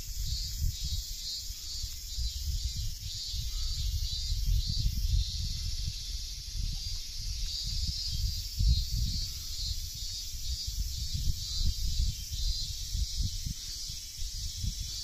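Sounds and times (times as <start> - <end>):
cicadas singing: 0.0 - 15.0
low rumble on microphone: 0.0 - 15.0.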